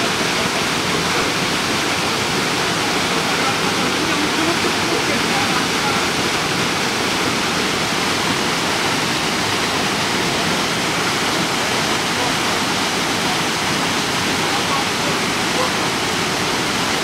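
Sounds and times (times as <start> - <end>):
waterfall pouring over rocks: 0.0 - 17.0.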